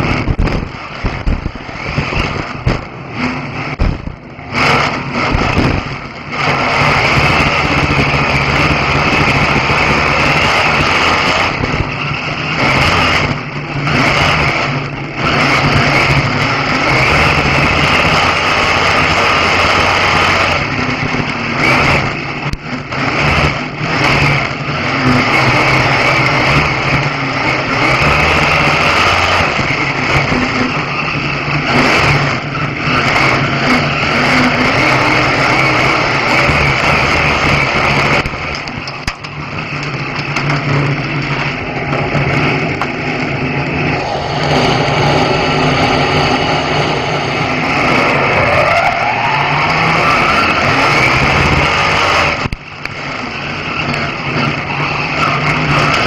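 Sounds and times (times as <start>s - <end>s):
racing car engine at high revs: 0.0s - 56.0s.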